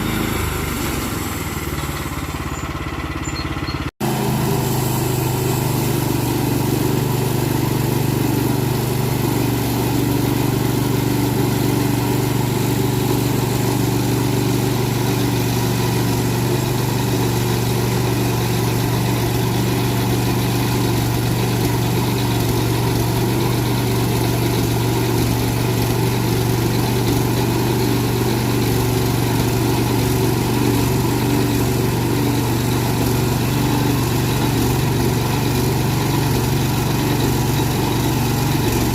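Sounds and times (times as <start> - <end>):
sawmill engine humming: 0.0 - 38.9.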